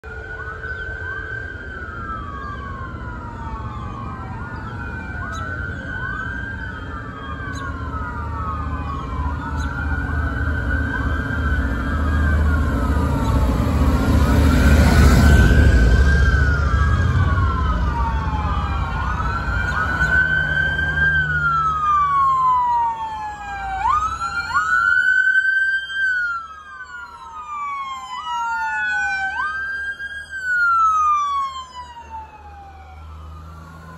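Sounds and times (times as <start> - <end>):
police sirens wailing: 0.0 - 33.9
motorcycle engines rumbling: 0.2 - 33.9.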